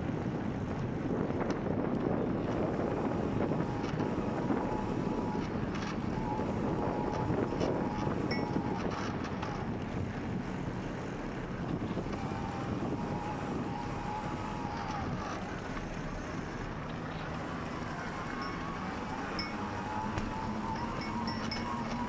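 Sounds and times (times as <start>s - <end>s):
bicycle tyre and road noise: 0.0s - 22.0s
wind on microphone: 0.0s - 22.0s
faint thin whine: 2.4s - 9.7s, 11.7s - 22.0s.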